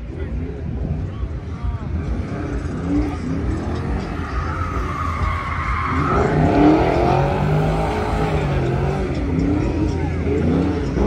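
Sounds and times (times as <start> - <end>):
car engine revving: 0.0 - 11.0
car tires squealing: 2.0 - 11.0.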